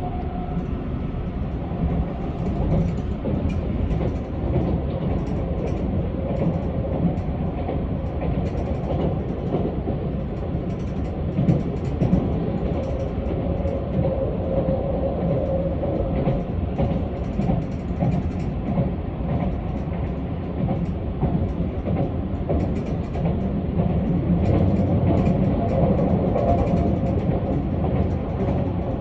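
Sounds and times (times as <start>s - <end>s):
electric train rolling rumble: 0.0s - 29.0s.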